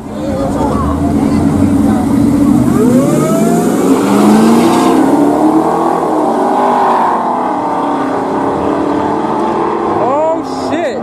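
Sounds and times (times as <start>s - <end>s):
pickup truck engines racing: 0.0s - 11.0s.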